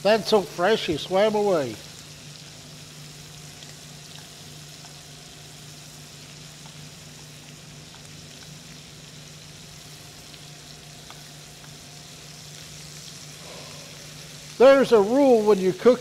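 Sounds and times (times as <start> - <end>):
steady low hum: 0.0 - 15.8
shrimp sizzling in a pan: 0.0 - 16.0.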